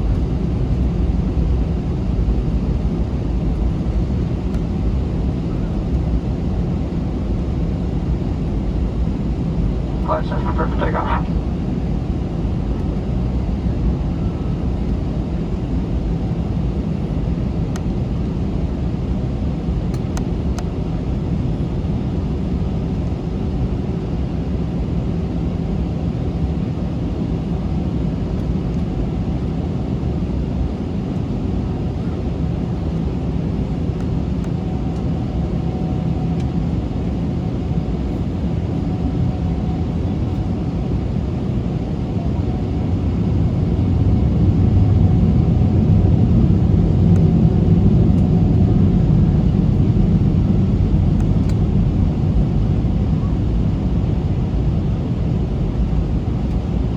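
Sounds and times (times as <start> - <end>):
jet engine rumble in cabin: 0.0 - 56.9.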